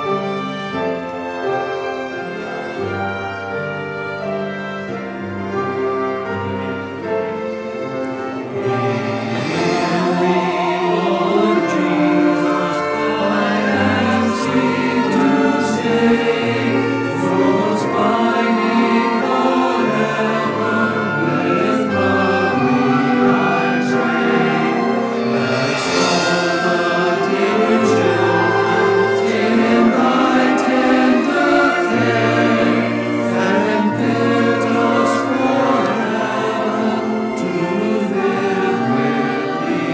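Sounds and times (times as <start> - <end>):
choir singing: 0.0 - 39.9
orchestral strings: 0.0 - 39.9.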